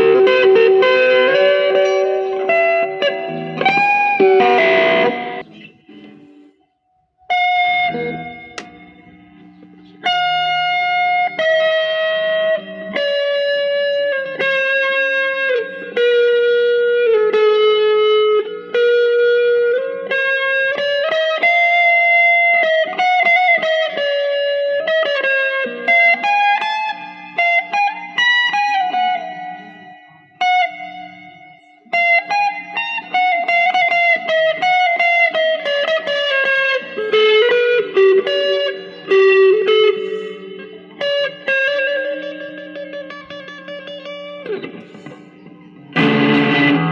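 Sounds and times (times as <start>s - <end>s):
electric guitar melody with effect: 0.0s - 46.9s.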